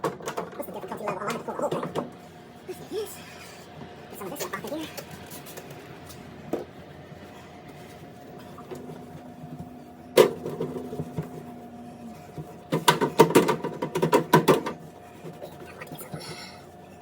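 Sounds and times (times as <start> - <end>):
things clattering in a refrigerator: 0.0 - 17.0
faint steady hum: 0.3 - 17.0.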